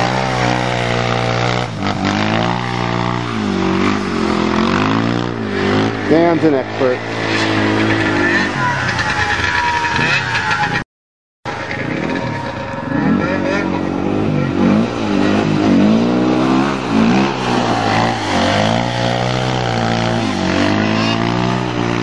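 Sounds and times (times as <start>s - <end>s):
vehicle engine revving: 0.0s - 10.8s, 11.5s - 22.0s.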